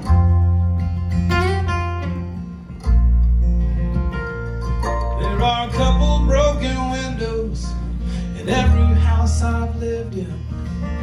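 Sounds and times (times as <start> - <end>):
mandolin: 0.0 - 11.0
strummed acoustic guitar: 0.0 - 11.0
upright bass notes: 0.0 - 11.0.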